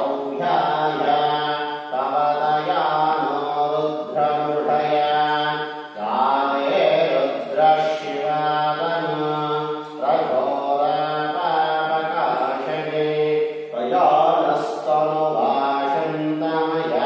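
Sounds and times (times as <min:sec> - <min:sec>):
mantra chanting: 0:00.0 - 0:17.0.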